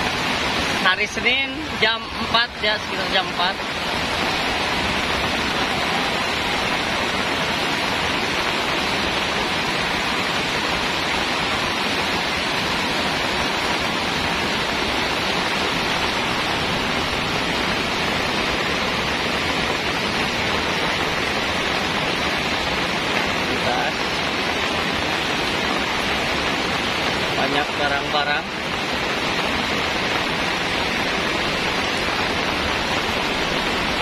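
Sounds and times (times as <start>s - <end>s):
heavy rain downpour: 0.0s - 34.0s.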